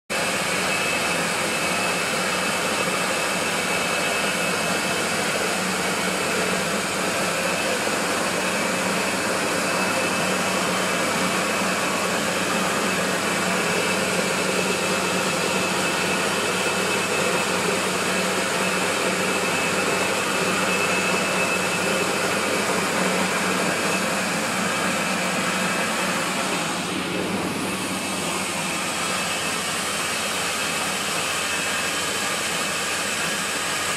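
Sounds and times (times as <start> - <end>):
rice milling machine whirring: 0.1 - 33.9.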